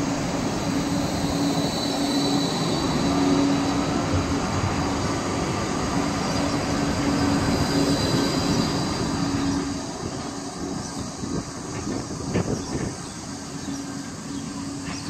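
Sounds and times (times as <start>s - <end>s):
light-rail tram rumbling past: 0.0s - 15.0s.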